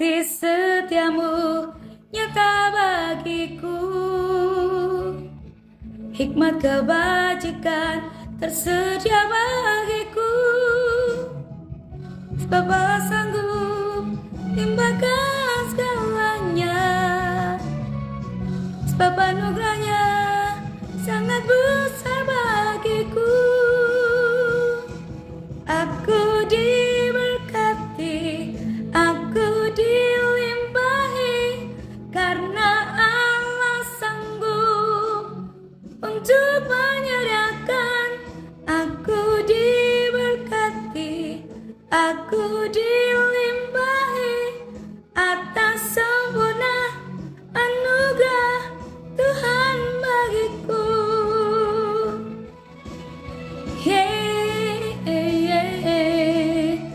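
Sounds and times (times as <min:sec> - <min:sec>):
woman singing with vibrato: 0:00.0 - 0:05.3, 0:06.1 - 0:11.5, 0:12.3 - 0:52.7, 0:53.5 - 0:56.9
soft instrumental backing chords: 0:00.0 - 0:56.9.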